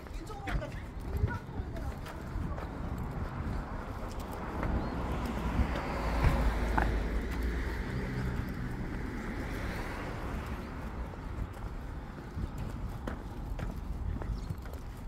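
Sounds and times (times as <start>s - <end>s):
vehicle passing: 1.7s - 14.1s.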